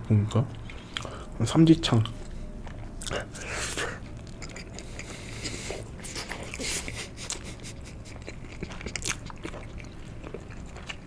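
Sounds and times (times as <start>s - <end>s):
close chewing with mouth smacks: 0.6s - 1.2s, 2.0s - 11.0s.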